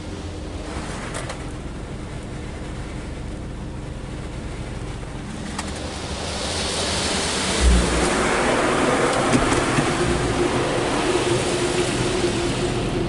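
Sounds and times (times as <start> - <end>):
car wash rushing water: 0.0 - 13.0.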